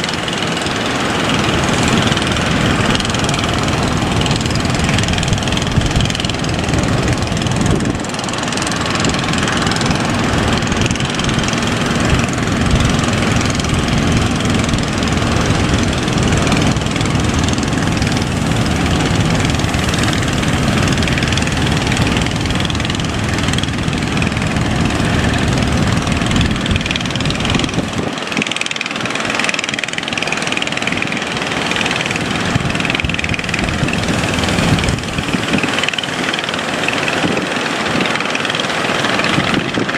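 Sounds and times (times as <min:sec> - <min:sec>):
boat engine rumble: 0:00.0 - 0:39.9
rushing noise: 0:00.0 - 0:39.9.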